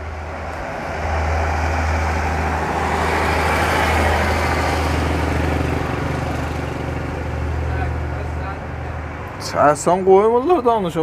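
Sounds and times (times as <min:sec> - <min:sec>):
steady low traffic hum: 0:00.0 - 0:11.0
vehicle passing: 0:00.0 - 0:11.0.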